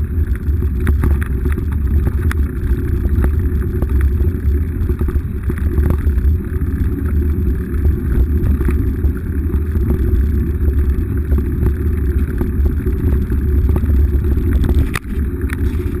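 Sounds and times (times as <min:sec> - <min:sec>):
bike clicks and rattles: 0:00.0 - 0:16.0
wind and tyre rumble: 0:00.0 - 0:16.0.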